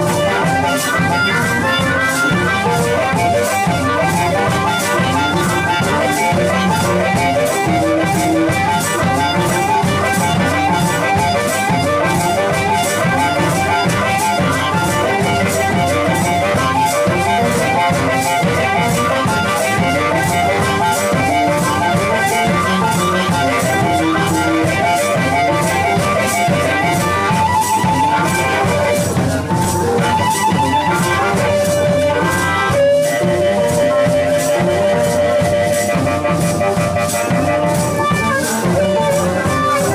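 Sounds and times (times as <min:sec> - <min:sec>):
drums: 0:00.0 - 0:39.9
electric guitar: 0:00.0 - 0:39.9
harmonica: 0:00.0 - 0:39.9.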